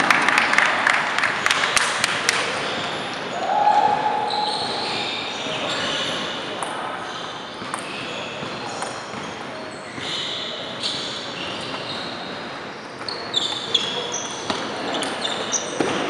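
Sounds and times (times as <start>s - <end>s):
hum of large hall: 0.0s - 16.0s
sneakers squeaking on floor: 2.4s - 16.0s.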